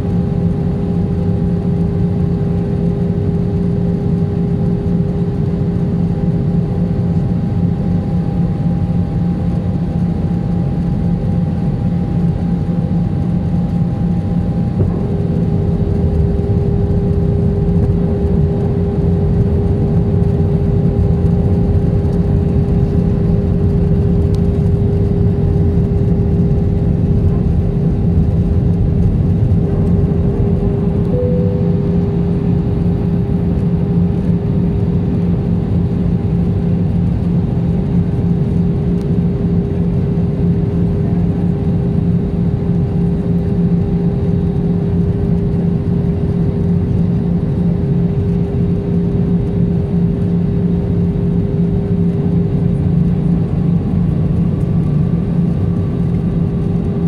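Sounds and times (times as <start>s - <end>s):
aircraft engine drone: 0.0s - 57.0s.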